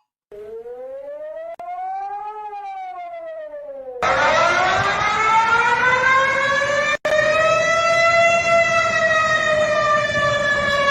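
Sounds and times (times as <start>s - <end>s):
falling siren tone: 0.3s - 10.9s
warning siren winding up: 0.3s - 10.9s.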